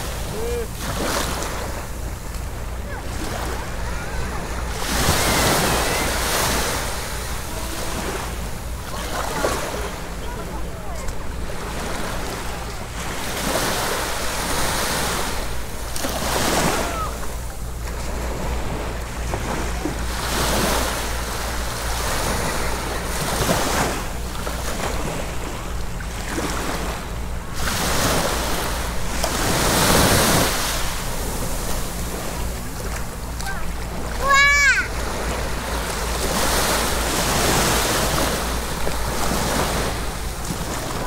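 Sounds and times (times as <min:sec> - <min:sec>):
sea waves breaking: 0:00.0 - 0:41.0.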